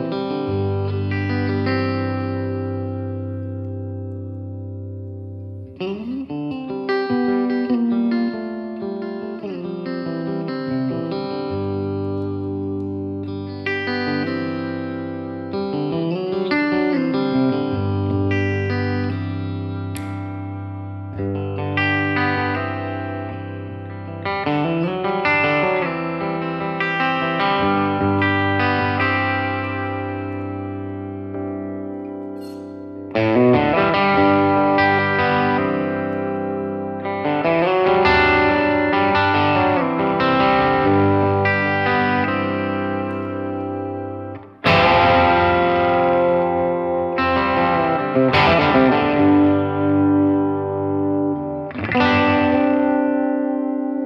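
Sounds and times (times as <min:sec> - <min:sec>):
electric guitar chords ringing: 0:00.0 - 0:54.0.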